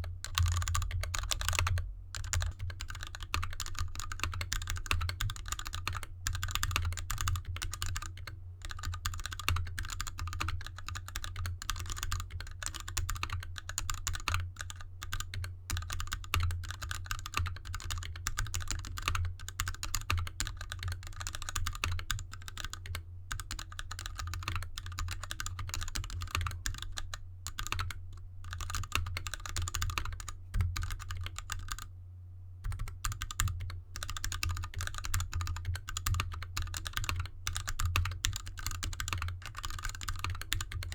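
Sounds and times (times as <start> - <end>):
fast typing on mechanical keyboard: 0.0 - 31.9, 32.6 - 40.9.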